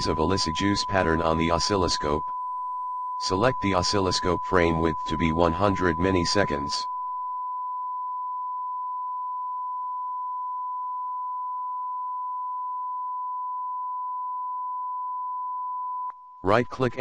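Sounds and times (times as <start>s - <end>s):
sine wave test tone: 0.0s - 16.4s.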